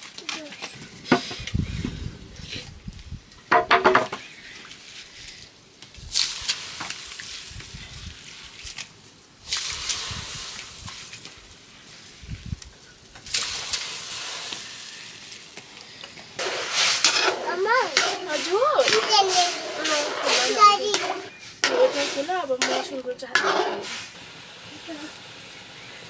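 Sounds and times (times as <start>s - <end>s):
hot oil sizzling: 1.0s - 26.0s.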